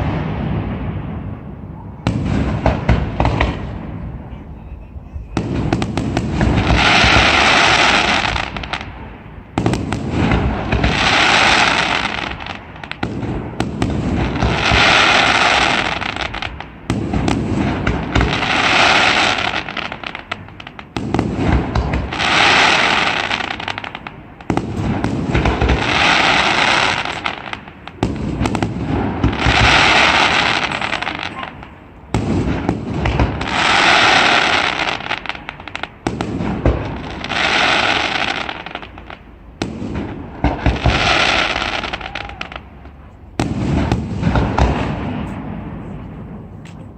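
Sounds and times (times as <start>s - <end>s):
fireworks crackling: 0.0s - 46.9s
low booms of firework shells: 0.0s - 46.9s.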